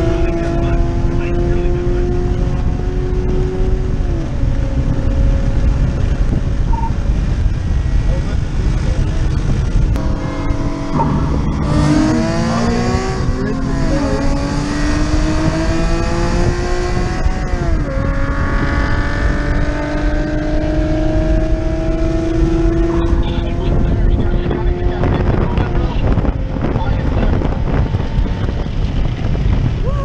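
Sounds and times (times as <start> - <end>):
car engine at full throttle: 0.0 - 30.0
wind buffeting microphone: 0.0 - 30.0.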